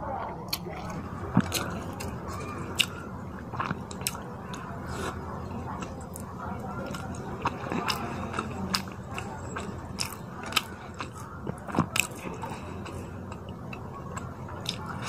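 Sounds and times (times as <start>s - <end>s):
chewing with wet mouth smacks: 0.5s - 15.0s.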